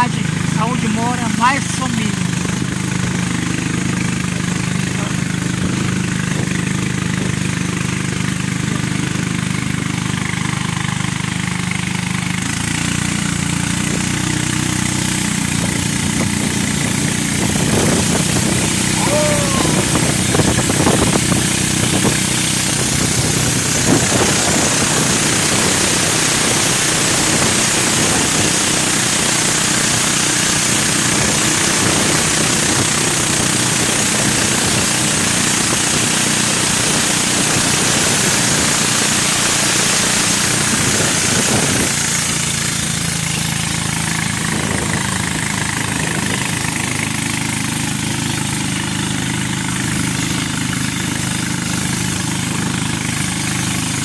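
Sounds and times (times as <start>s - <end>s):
boat engine running: 0.0s - 54.0s
rushing water: 0.0s - 54.0s
wind: 0.0s - 54.0s.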